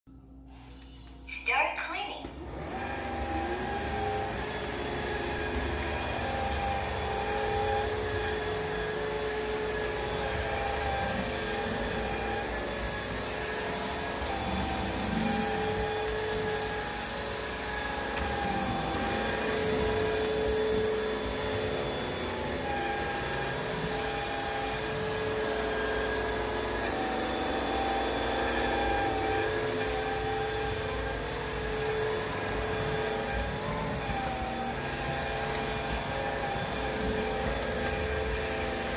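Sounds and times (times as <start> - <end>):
floor vacuum motor hum and whine: 0.1 - 38.9.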